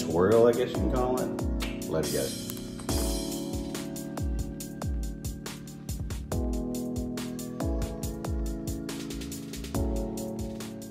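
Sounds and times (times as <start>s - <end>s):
synth chords: 0.0s - 10.9s
kick drum beat: 0.8s - 10.6s.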